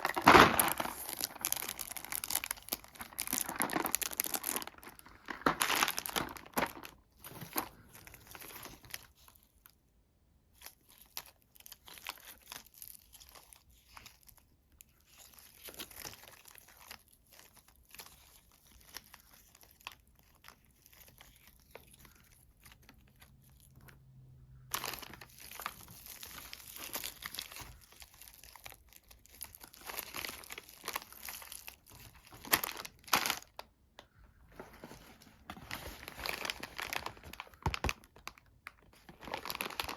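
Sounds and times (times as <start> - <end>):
candy wrapper crinkling and tearing: 0.0 - 9.8, 10.5 - 33.8, 35.6 - 39.9.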